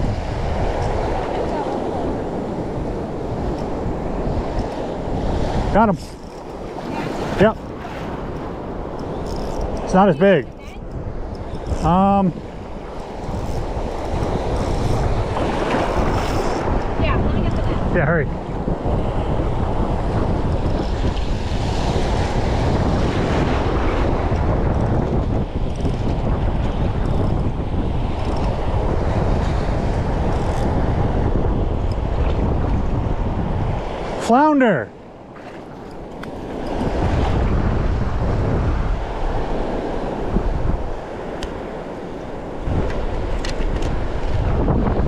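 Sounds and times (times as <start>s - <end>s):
wind buffeting microphone: 0.0s - 34.3s, 34.9s - 45.0s
choppy sea waves: 0.0s - 45.0s.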